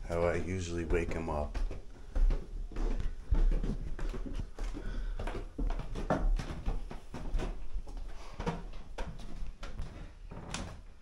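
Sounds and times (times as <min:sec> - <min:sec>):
footsteps on wooden stairs: 0:00.0 - 0:11.0.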